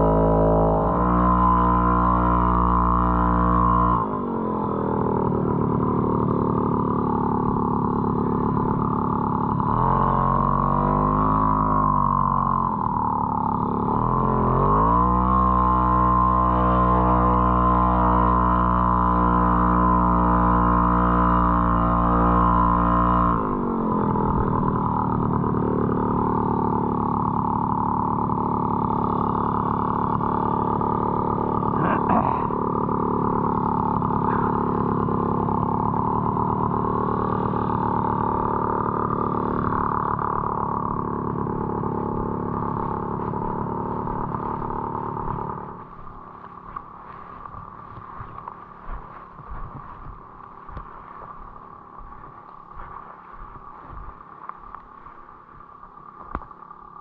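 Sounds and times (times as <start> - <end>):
moped two-stroke engine running: 0.0 - 57.0.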